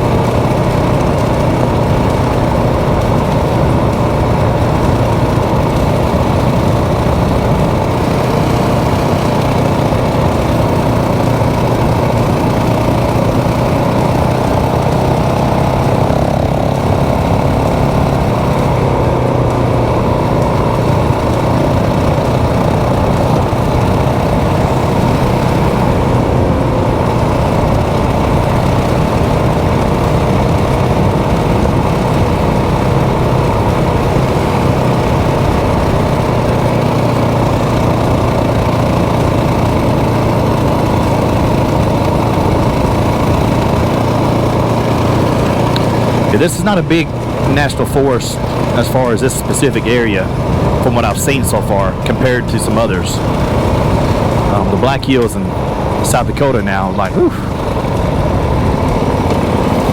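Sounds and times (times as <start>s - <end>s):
motorcycle engine drone: 0.0s - 59.9s
wind and road noise: 0.0s - 59.9s.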